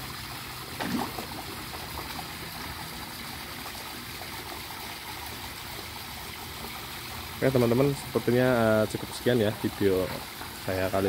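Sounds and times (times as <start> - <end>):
water splashing into pond: 0.0 - 11.0.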